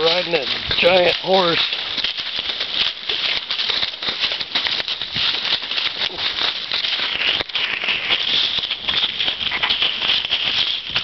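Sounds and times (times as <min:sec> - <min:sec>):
hooves walking through stubble: 0:00.0 - 0:11.0.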